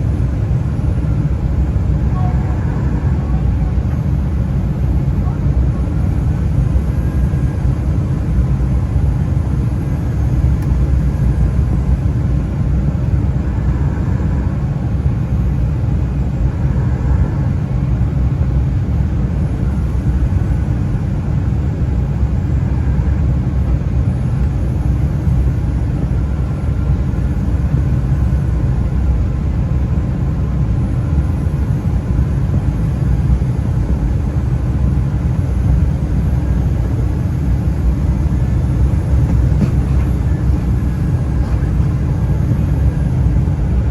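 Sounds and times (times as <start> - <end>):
jet cabin engine rumble: 0.0 - 43.9.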